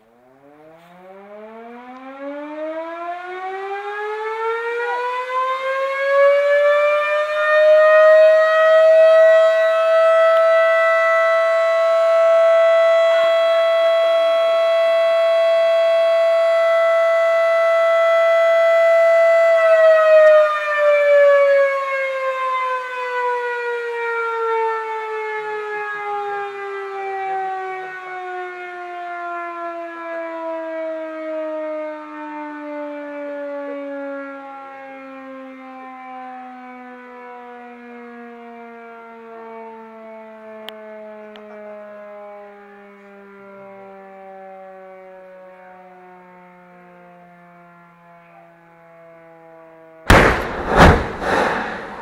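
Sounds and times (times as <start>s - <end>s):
warning siren wailing: 0.1s - 50.0s.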